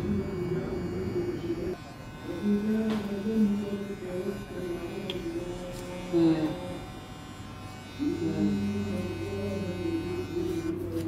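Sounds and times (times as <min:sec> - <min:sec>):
electric hair clipper buzzing: 0:00.0 - 0:11.0.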